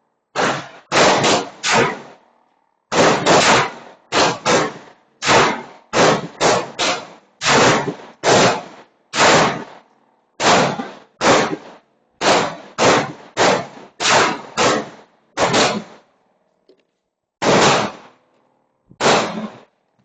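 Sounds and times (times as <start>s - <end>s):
pistol shots: 0.3s - 2.2s, 2.9s - 16.1s, 17.4s - 18.2s, 19.0s - 19.7s.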